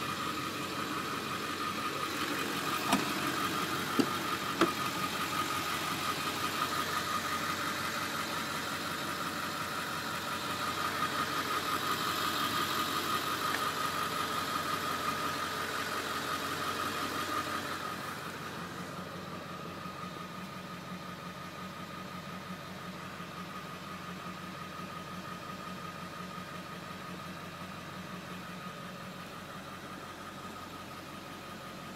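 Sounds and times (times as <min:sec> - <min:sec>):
engine idling from inside cab: 0:00.0 - 0:31.9.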